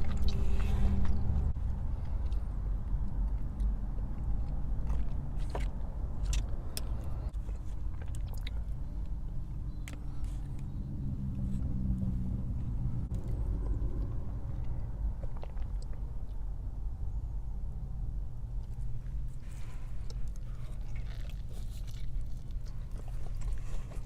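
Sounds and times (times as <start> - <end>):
person chewing food: 0.0 - 10.8, 13.1 - 16.8, 18.5 - 24.0
low rumble: 0.0 - 24.0.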